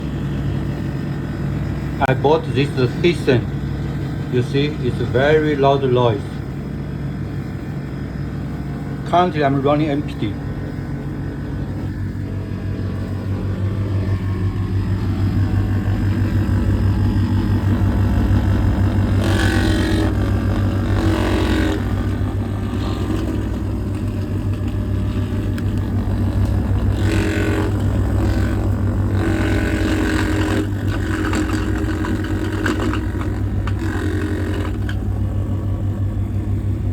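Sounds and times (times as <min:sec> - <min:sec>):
clothes dryer low rumble: 0:00.0 - 0:36.9.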